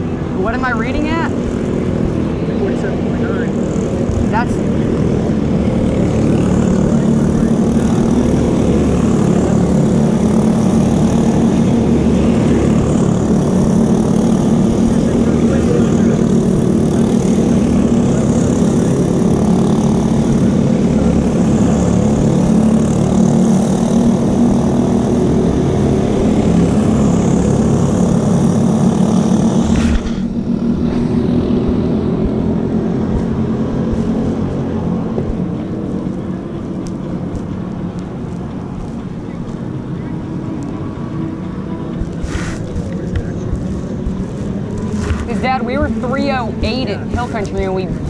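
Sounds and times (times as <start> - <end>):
kart engine running: 0.0 - 48.0
quiet engine hum: 0.0 - 48.0.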